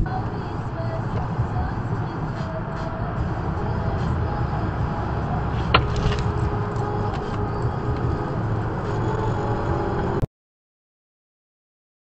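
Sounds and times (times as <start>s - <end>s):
car road and engine rumble: 0.0s - 10.3s.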